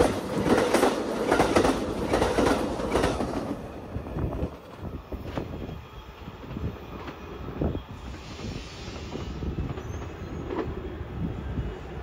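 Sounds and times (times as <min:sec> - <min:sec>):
train wheels rumbling over rails: 0:00.0 - 0:12.0.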